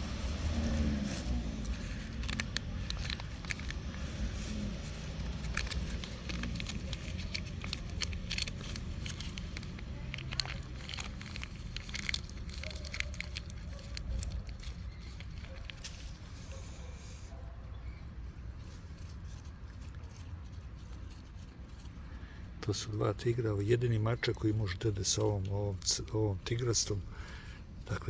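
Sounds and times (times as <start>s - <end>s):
cats chewing crunchily: 0.0s - 28.0s.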